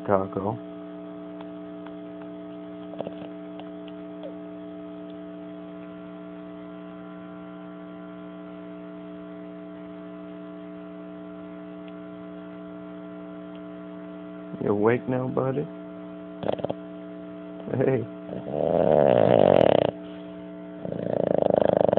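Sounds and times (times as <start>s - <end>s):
electrical mains hum: 0.0s - 21.9s.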